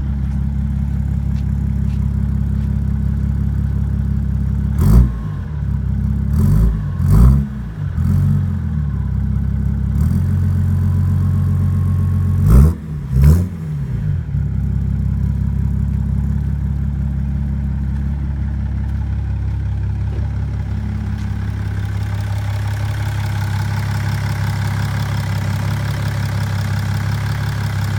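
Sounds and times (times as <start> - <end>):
car engine revving and idling: 0.0 - 27.9.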